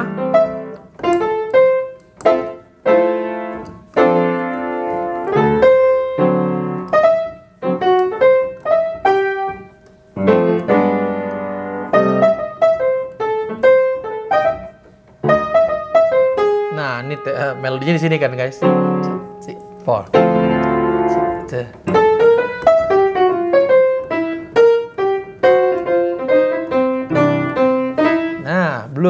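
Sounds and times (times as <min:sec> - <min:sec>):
solo jazz piano: 0:00.0 - 0:29.0.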